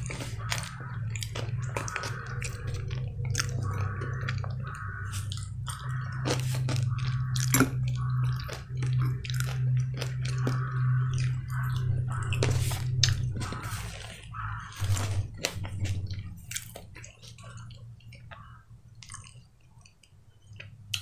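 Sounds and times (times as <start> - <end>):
mouth chewing food: 0.0 - 21.0
steady low hum: 0.0 - 21.0.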